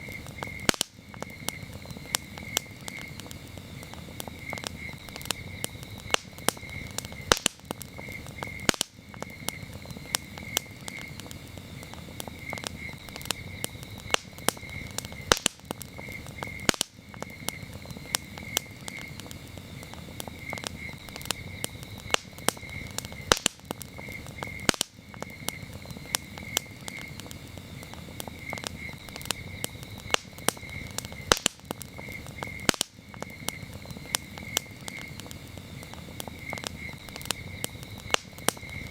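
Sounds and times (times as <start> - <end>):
campfire crackling: 0.0 - 38.9
crickets chirping: 0.0 - 38.9.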